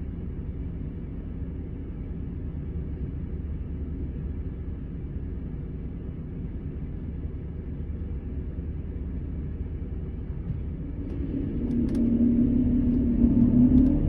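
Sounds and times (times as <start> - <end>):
diesel coach engine rumbling: 0.0 - 14.0.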